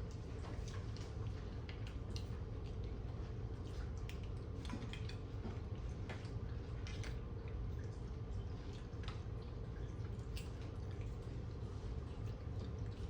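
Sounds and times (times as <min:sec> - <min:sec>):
steady low hum: 0:00.0 - 0:13.0
wet chewing sounds: 0:00.0 - 0:13.0.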